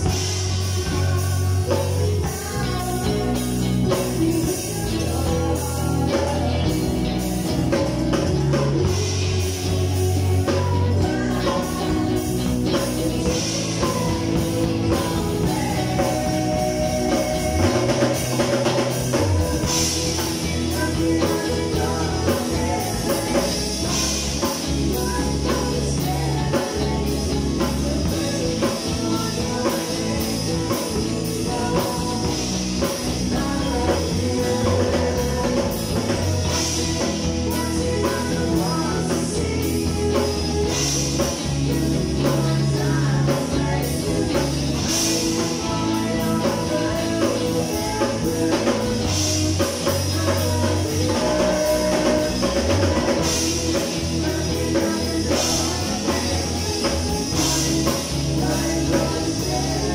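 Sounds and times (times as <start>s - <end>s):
drum kit beat: 0.0s - 59.9s
electric guitar: 0.0s - 59.9s
live rock band playing: 0.0s - 59.9s.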